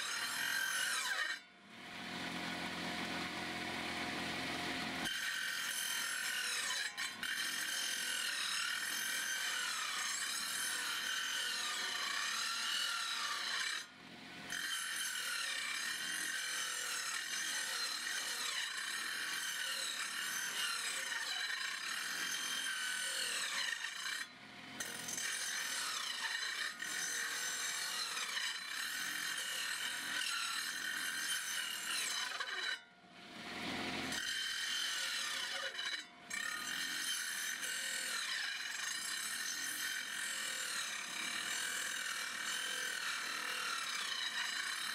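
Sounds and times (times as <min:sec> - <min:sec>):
circular saw cutting wood: 0:00.0 - 0:44.9.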